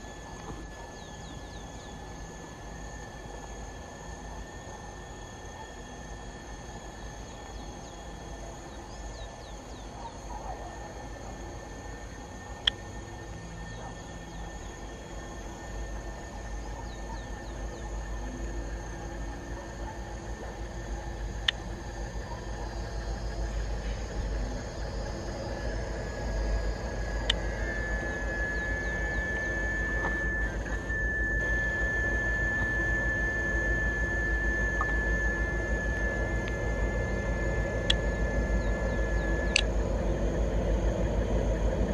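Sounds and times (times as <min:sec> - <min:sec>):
high thin whine: 0:00.0 - 0:41.9.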